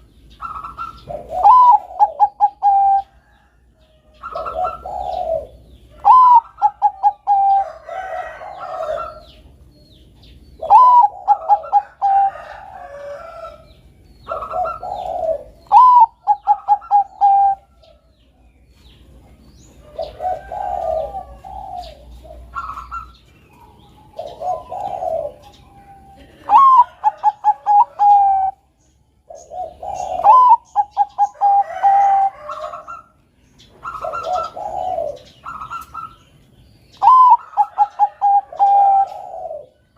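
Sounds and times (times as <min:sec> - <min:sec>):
dove cooing: 0:00.0 - 0:09.6, 0:10.5 - 0:18.1, 0:19.3 - 0:36.3, 0:36.9 - 0:39.9.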